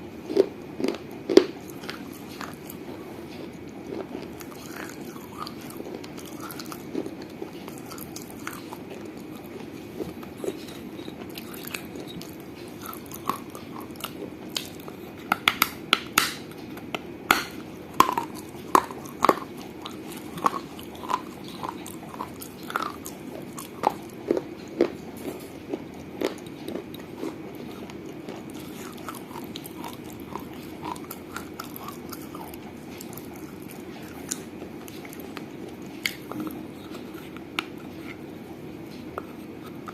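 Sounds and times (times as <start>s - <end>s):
steady low hum: 0.0s - 39.9s
teeth crunching fired clay: 3.4s - 38.0s.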